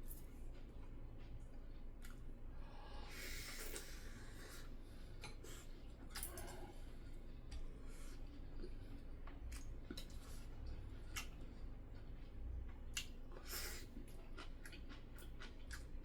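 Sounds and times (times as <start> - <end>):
chewing: 0.1 - 2.4, 3.4 - 16.0.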